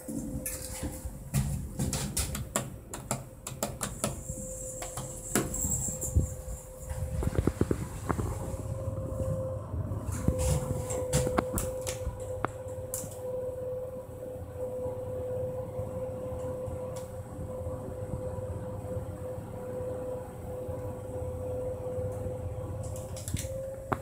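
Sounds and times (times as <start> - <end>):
elevator hum: 0.0 - 24.0.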